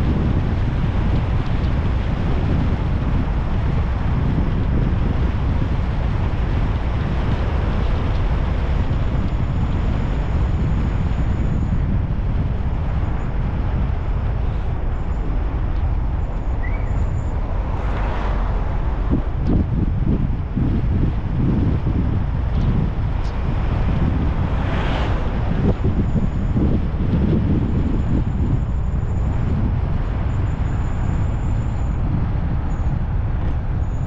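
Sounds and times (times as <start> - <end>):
car driving on road: 0.0 - 34.0.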